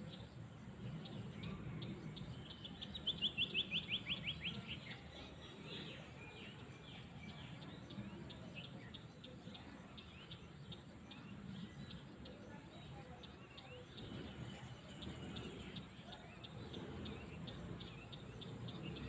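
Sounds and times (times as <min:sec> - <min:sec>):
low steady outdoor rumble: 0:00.0 - 0:19.0
small songbirds chirping: 0:00.0 - 0:19.0.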